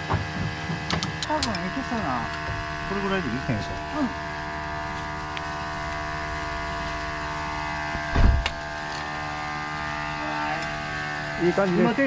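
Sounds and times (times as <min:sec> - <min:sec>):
machine droning hum: 0:00.0 - 0:12.0.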